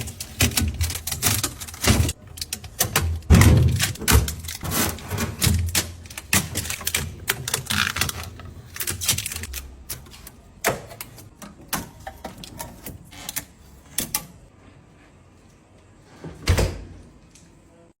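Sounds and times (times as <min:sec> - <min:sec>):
items clicking and knocking in refrigerator: 0:00.0 - 0:14.5.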